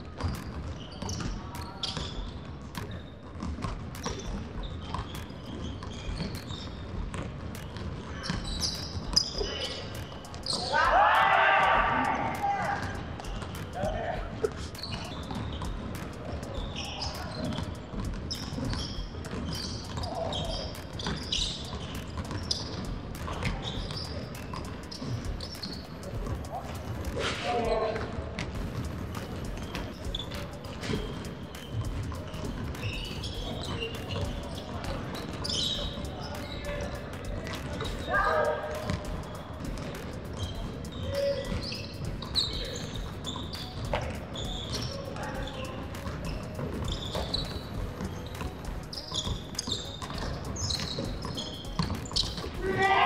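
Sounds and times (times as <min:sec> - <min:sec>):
sneaker squeaks: 0:00.0 - 0:53.0
basketballs bouncing on wood floor: 0:00.2 - 0:53.0.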